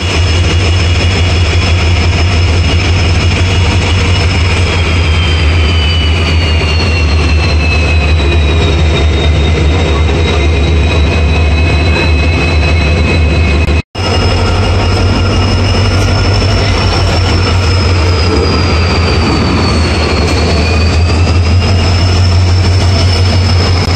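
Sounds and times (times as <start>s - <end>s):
locomotive engine drone and whine: 0.0s - 23.9s
locomotive passing: 0.0s - 23.9s.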